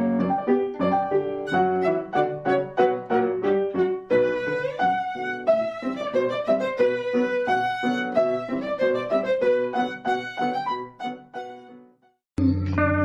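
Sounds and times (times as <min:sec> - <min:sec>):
instrumental melody: 0:00.0 - 0:13.0.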